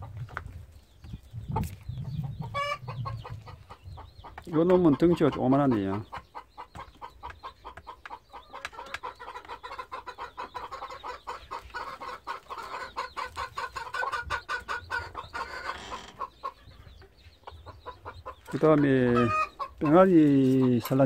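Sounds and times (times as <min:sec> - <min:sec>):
hen clucking: 0:00.0 - 0:21.0.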